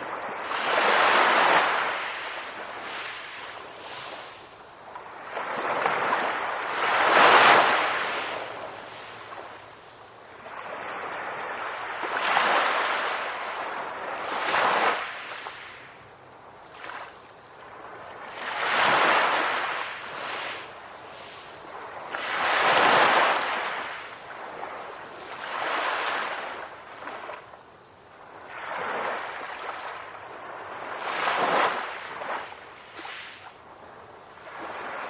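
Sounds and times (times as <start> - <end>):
ocean waves washing on beach: 0.0 - 35.0.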